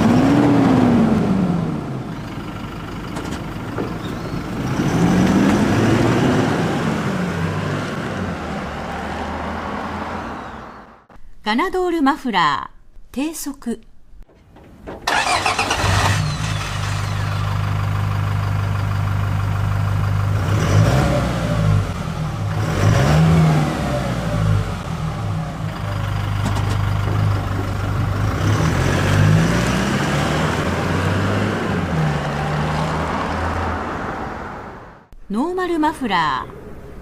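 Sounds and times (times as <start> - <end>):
diesel engine exhaust: 0.0 - 11.1, 15.1 - 35.1.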